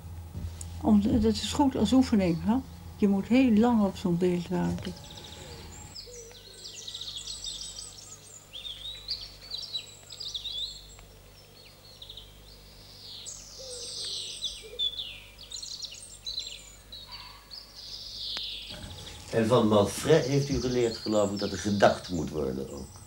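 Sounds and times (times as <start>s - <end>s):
faint low hum: 0.0s - 23.0s
songbirds singing: 0.0s - 23.0s.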